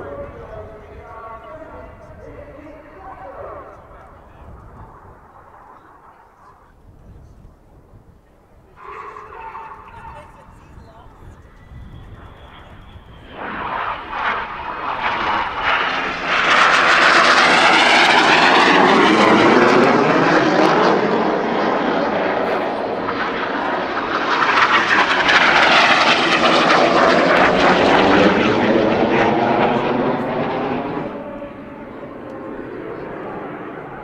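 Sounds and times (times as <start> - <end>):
jet flying past: 0.0 - 34.0.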